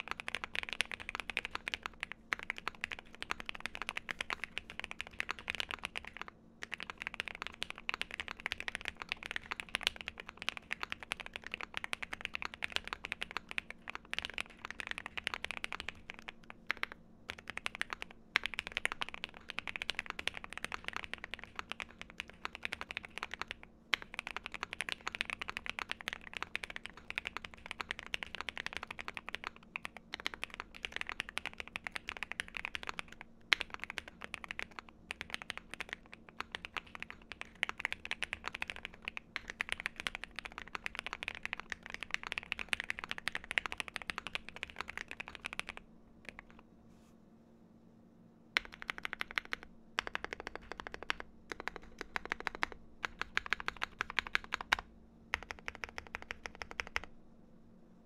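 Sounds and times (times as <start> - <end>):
mechanical keyboard typing: 0.0 - 46.6, 48.6 - 57.1.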